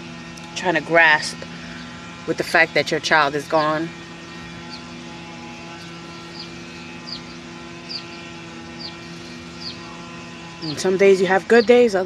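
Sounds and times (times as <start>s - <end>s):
steady motor drone: 0.0s - 12.0s.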